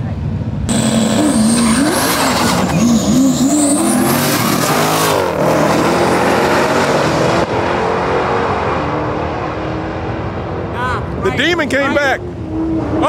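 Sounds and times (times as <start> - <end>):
cars revving at full throttle: 0.6 - 13.0.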